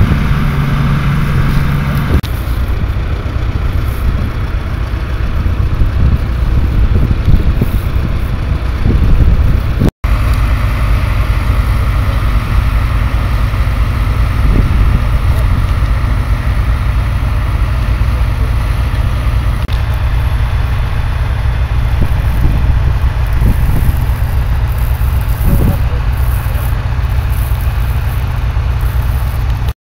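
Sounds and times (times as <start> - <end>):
tractors ploughing: 0.0 - 29.8.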